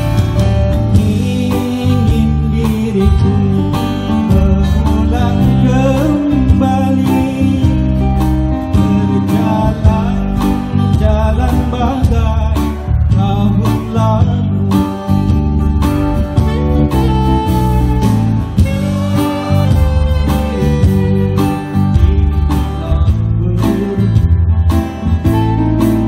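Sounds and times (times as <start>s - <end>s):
drums: 0.0s - 26.0s
guitar: 0.0s - 26.0s
keyboard: 0.0s - 26.0s.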